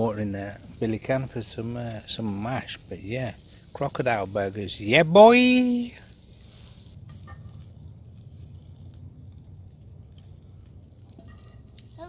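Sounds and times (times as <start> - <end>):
low steady rumble: 0.0 - 12.0
burgers sizzling in a pan: 0.3 - 12.0.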